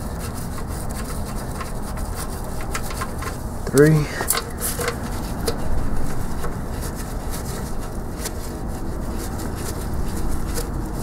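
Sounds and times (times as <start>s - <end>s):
steady low rumble: 1.7s - 11.0s.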